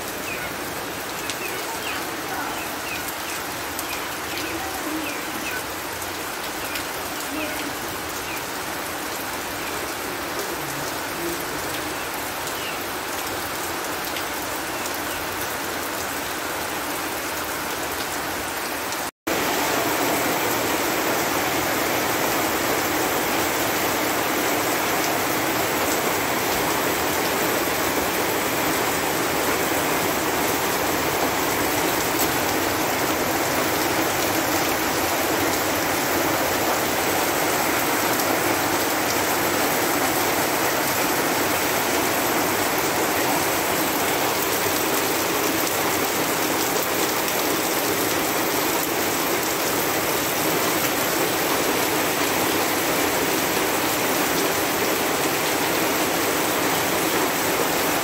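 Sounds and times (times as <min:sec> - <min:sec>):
heavy rain falling: 0:00.0 - 0:58.0
rain on a metal roof: 0:00.0 - 0:58.0.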